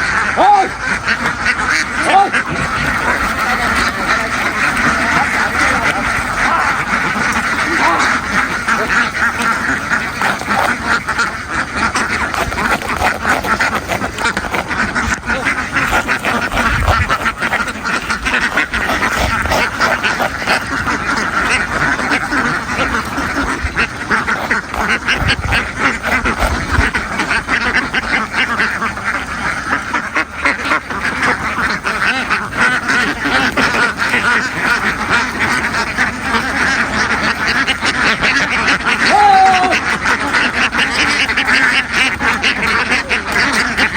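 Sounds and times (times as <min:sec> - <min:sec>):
flock of ducks quacking: 0:00.0 - 0:43.9.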